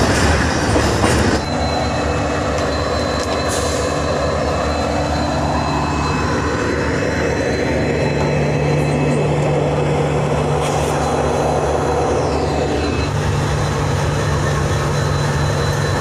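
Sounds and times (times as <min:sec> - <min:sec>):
train wheels rumbling on rail: 0:00.0 - 0:16.0
high-pitched whine: 0:01.4 - 0:16.0.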